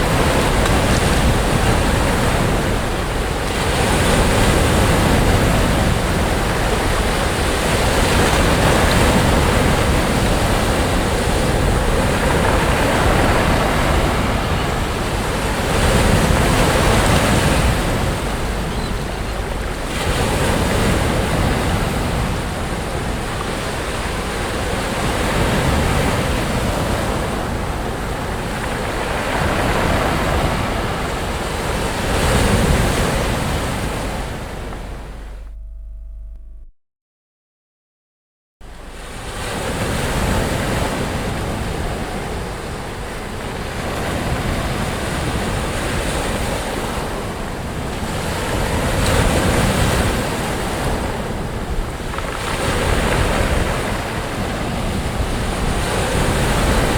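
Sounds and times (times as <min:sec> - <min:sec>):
sea waves breaking on a beach: 0:00.0 - 0:35.4, 0:38.7 - 0:56.9.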